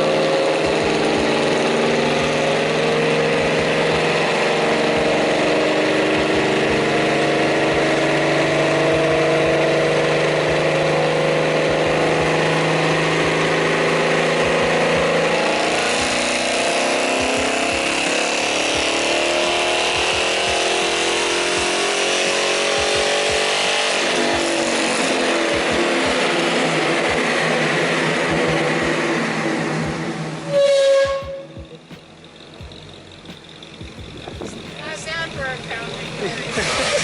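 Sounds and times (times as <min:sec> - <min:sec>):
modified car engine running: 0:00.0 - 0:37.0.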